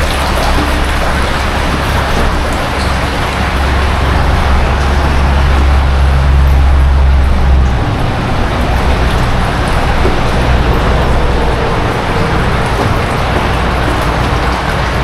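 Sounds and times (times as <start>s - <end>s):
highway traffic noise: 0.0s - 15.0s.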